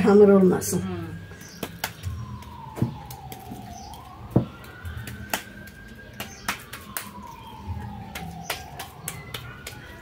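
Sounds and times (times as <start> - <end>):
siren wailing: 0.0 - 10.0
hands slapping dough: 1.4 - 10.0.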